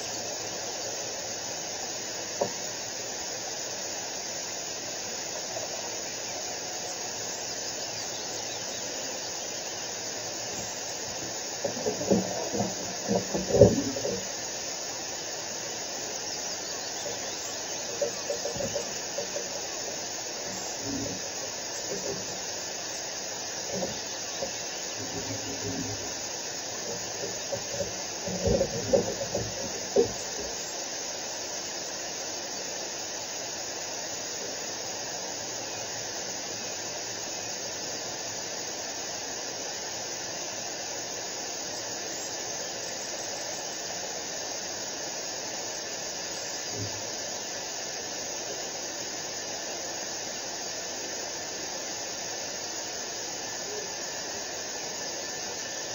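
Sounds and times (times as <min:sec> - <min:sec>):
microphone hiss: 0:00.0 - 0:55.9.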